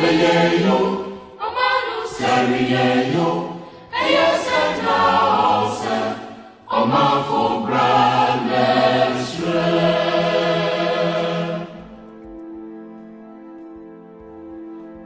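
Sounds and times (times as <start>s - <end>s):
choir singing: 0.0s - 13.3s.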